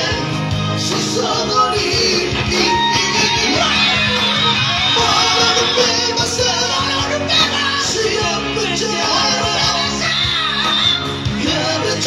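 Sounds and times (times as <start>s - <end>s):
amplified backing music: 0.0s - 12.0s
men singing in harmony: 0.0s - 12.0s.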